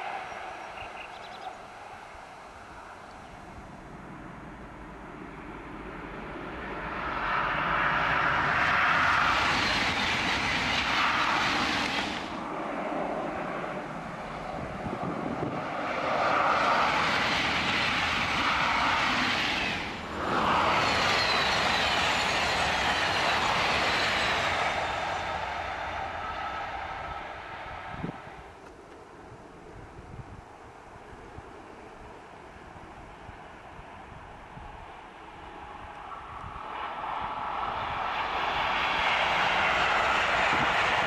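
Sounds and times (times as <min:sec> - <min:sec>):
high-speed train rushing past: 0:00.0 - 0:30.4, 0:31.1 - 0:41.0.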